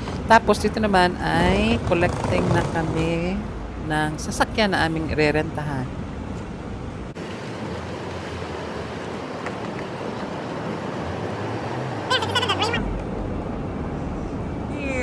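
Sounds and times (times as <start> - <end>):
rushing background noise: 0.0 - 15.0.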